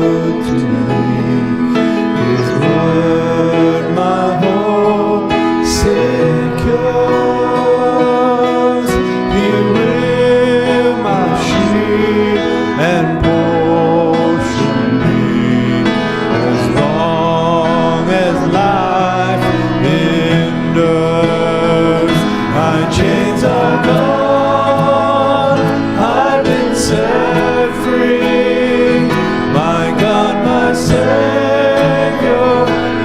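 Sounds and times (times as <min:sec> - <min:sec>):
gospel hymn singing with accompaniment: 0:00.0 - 0:33.0.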